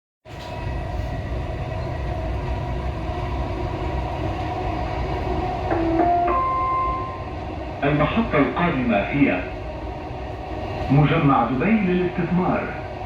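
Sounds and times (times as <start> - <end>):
train rumbling: 0.3 - 13.0.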